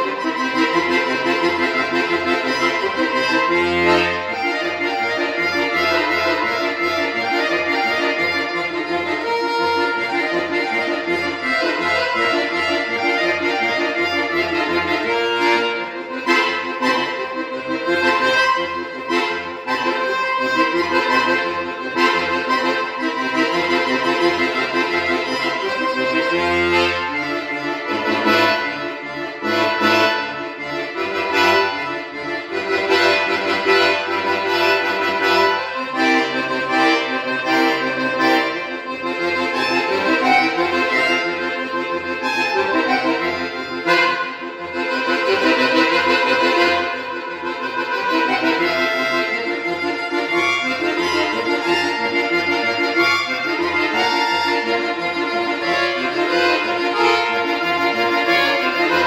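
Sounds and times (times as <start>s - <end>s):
piano accordion playing: 0.0s - 59.0s.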